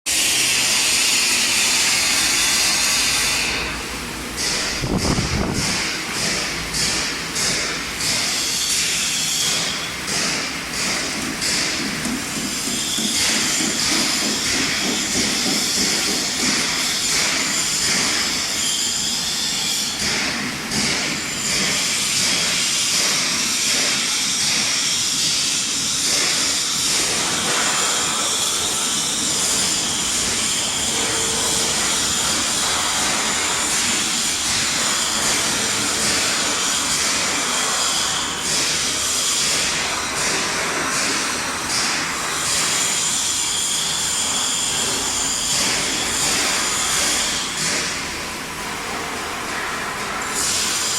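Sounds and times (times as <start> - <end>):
metal spinning machine hiss: 0.1 - 50.9.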